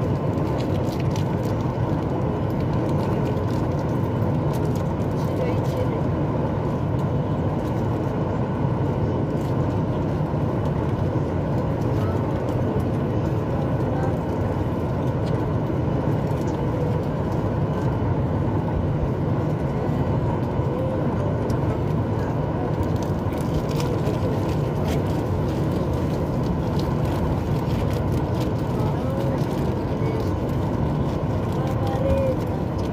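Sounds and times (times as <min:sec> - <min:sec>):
airplane cabin engine rumble: 0:00.0 - 0:32.9.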